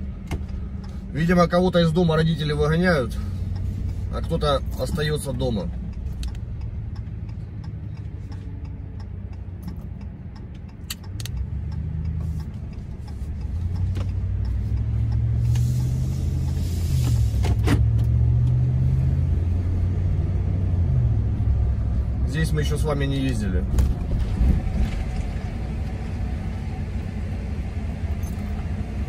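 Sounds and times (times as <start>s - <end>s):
truck engine accelerating: 0.0s - 29.0s.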